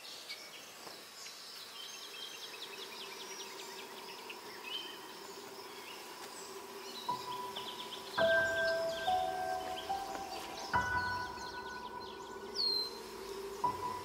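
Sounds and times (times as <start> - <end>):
birds chirping: 0.0 - 14.0
insects chirping: 0.0 - 14.0.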